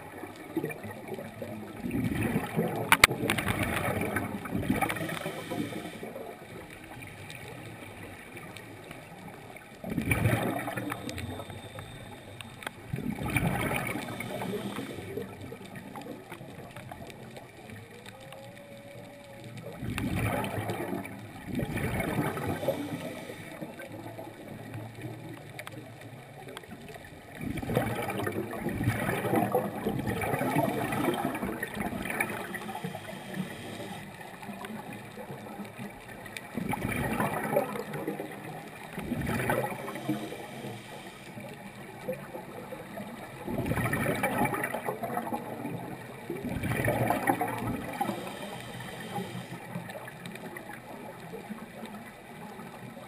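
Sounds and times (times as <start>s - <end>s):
water gurgling and bubbling: 0.0s - 53.0s.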